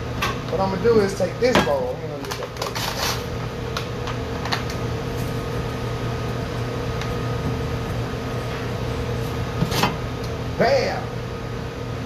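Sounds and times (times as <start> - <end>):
kitchen ventilation hum: 0.0 - 12.0.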